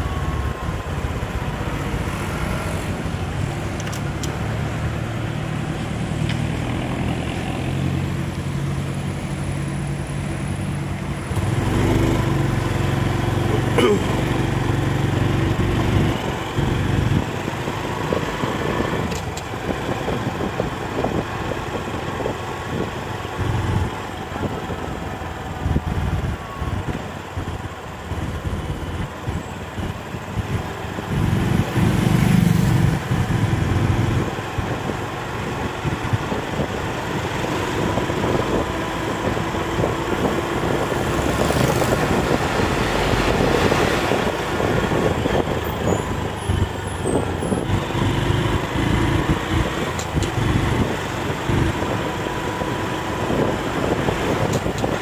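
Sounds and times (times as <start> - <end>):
passing traffic: 0.0 - 55.0
vehicle engine and road noise: 0.0 - 55.0.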